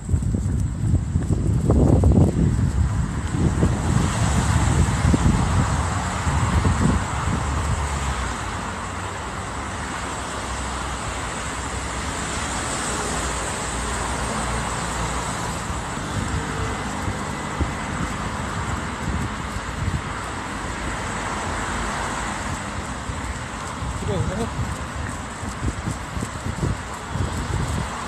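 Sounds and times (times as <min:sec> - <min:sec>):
road traffic rushing: 0:00.0 - 0:28.0
wind buffeting microphone: 0:00.0 - 0:28.0.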